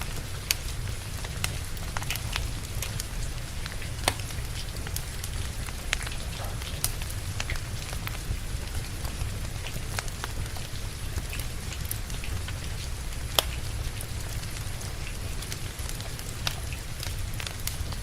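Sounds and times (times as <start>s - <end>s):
steady rain: 0.0s - 18.0s
wood fire crackling: 0.0s - 18.0s.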